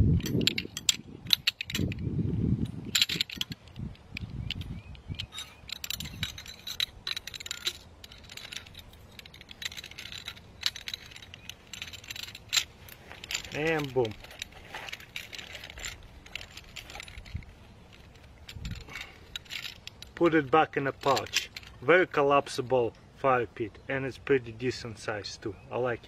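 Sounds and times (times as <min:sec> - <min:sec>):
metal tubes clinking and rattling: 0:00.2 - 0:23.1.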